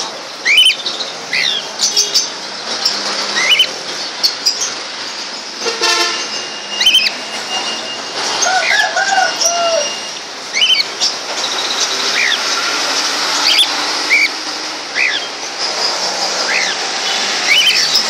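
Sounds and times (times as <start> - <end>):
cage birds chirping: 0.0 - 18.0
lower curving bird calls: 0.4 - 4.7, 6.7 - 7.8, 8.4 - 18.0.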